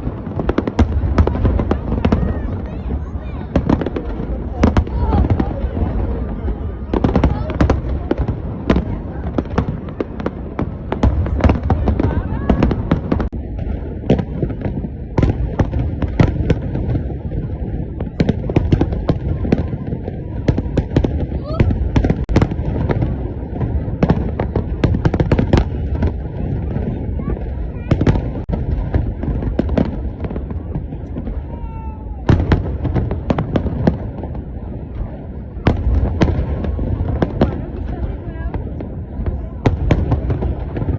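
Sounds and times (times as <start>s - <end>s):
firework bangs: 0.0s - 40.9s
low rumble of distant fireworks: 0.0s - 40.9s.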